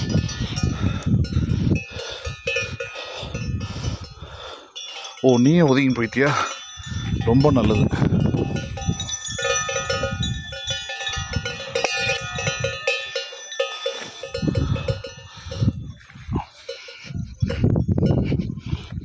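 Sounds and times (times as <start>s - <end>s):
cowbells clanking: 0.0s - 19.0s.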